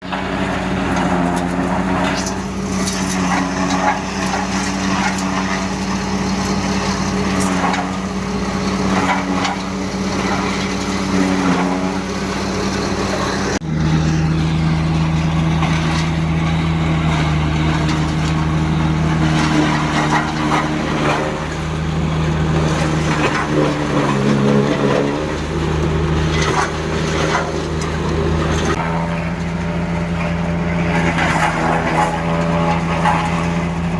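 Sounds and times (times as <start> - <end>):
heavy diesel engine under load: 0.0 - 33.9
machinery clatter: 0.0 - 33.9.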